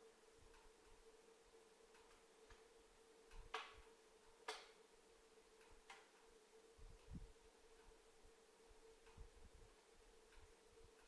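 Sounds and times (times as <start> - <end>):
steady faint hum: 0.0 - 11.0.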